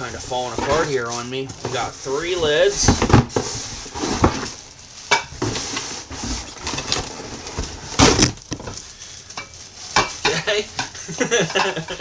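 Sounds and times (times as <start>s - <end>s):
foam packing scraping: 0.0s - 12.0s
plastic wrapping crinkling: 0.0s - 12.0s.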